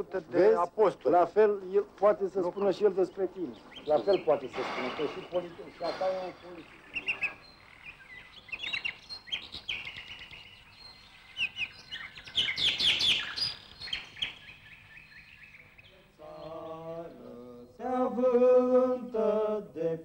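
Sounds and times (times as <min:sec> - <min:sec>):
small birds chirping: 0:00.0 - 0:19.5.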